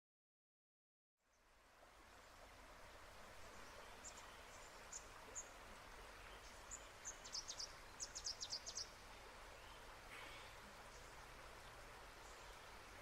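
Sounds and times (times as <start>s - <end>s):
background hiss: 1.2s - 13.0s.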